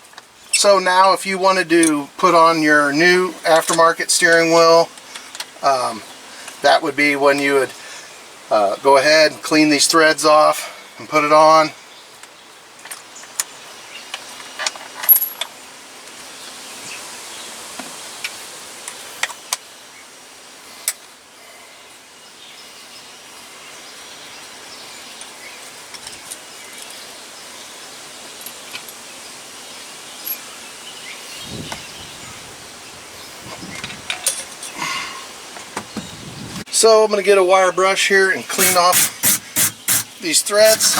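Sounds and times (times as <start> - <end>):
low hiss: 0.0 - 40.9.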